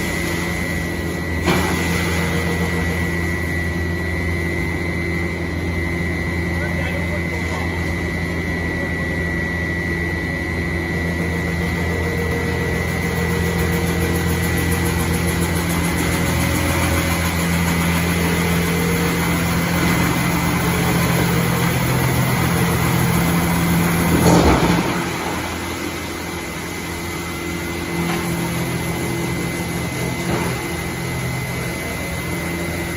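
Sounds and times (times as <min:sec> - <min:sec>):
wood chipper running: 0:00.0 - 0:32.9.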